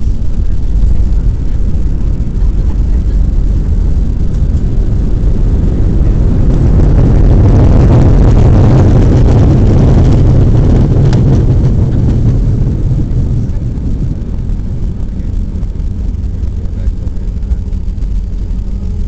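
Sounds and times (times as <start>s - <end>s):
airliner engine roar in cabin: 0.0s - 19.0s.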